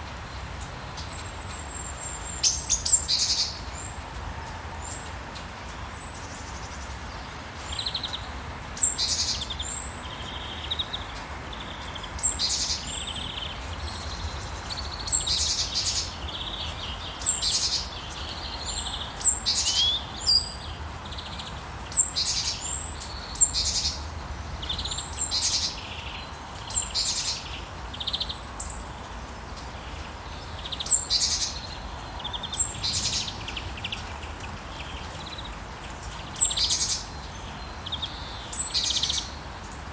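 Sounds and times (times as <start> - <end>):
gentle rain hiss: 0.0 - 39.9
songbirds chirping and trilling: 0.2 - 39.9.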